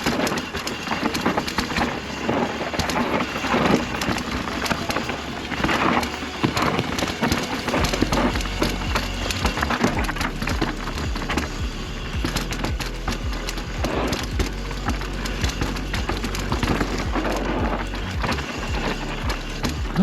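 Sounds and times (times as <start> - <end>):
bike rattling and clicking: 0.0 - 20.0
bike tyres crackling over dirt: 0.0 - 20.0
low steady hum: 0.0 - 20.0.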